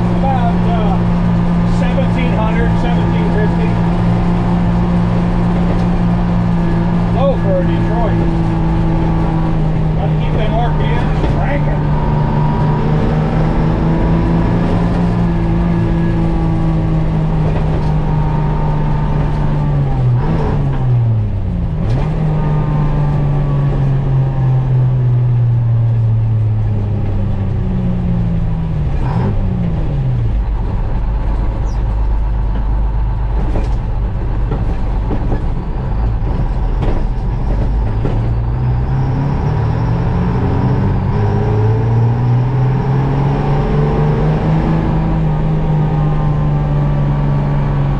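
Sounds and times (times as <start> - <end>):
diesel truck engine pulling: 0.0 - 47.9.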